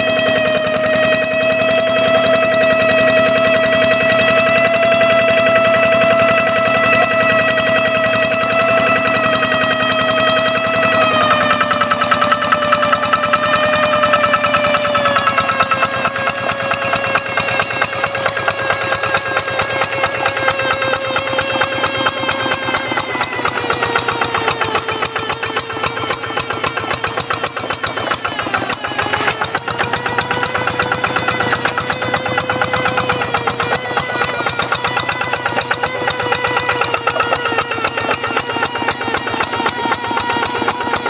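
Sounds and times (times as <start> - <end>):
diesel engine running under load: 0.0 - 41.0.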